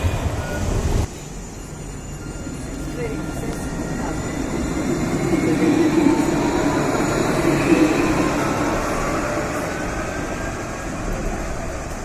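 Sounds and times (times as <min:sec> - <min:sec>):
tram motor whine: 0:00.0 - 0:12.0
wheels running on rail: 0:00.0 - 0:12.0.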